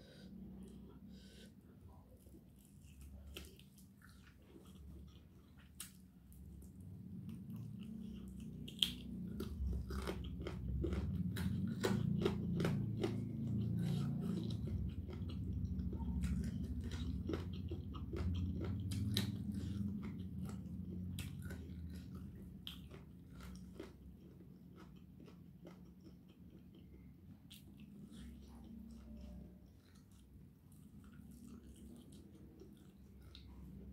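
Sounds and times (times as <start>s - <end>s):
person chewing crunchy food: 0.6s - 33.9s.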